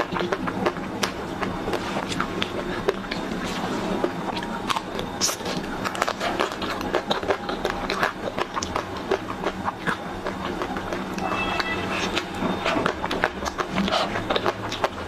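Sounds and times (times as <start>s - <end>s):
biting and chewing ice cream bar: 0.0s - 15.0s.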